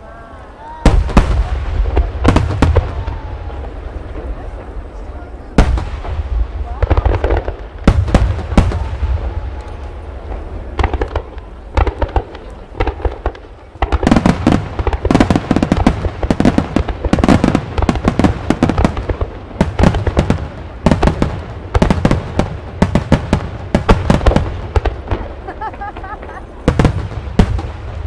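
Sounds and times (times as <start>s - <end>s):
fireworks booming and crackling: 0.7s - 28.0s.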